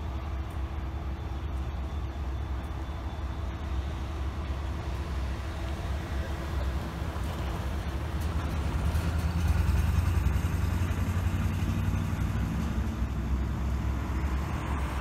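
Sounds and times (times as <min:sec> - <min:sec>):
diesel locomotives idling: 0:00.0 - 0:15.0.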